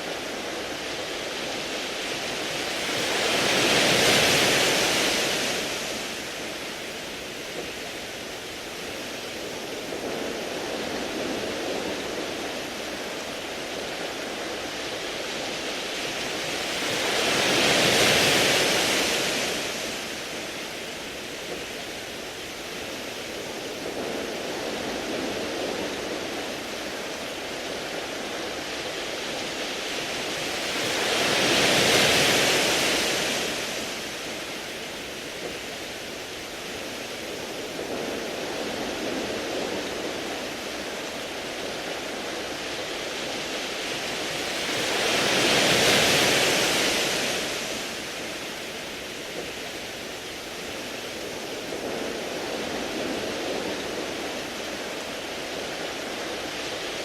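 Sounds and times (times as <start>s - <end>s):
surf hissing: 0.0s - 57.0s
waves washing over pebbles: 0.0s - 57.0s.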